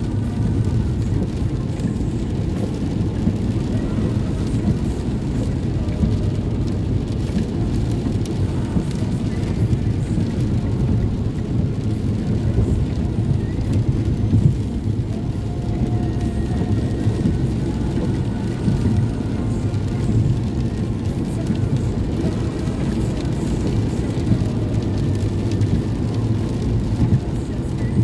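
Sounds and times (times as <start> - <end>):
rain and spray hissing on car: 0.0 - 28.0
road and tyre noise in car: 0.0 - 28.0.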